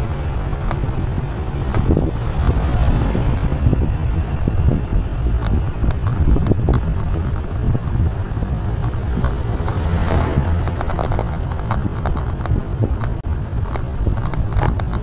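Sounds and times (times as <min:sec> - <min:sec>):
motorcycle passing: 0:00.0 - 0:12.7
steady low rumble: 0:00.0 - 0:15.0.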